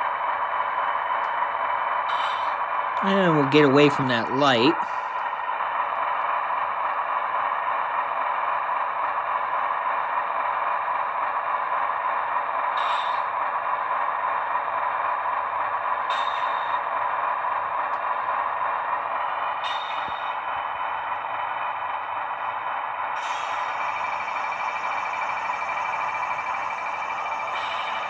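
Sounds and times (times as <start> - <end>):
diesel engine through small speaker: 0.0 - 28.0.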